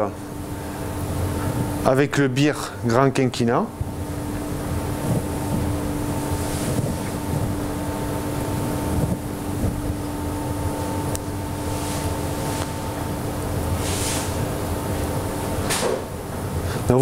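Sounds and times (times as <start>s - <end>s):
ventilation hum: 0.0s - 17.0s.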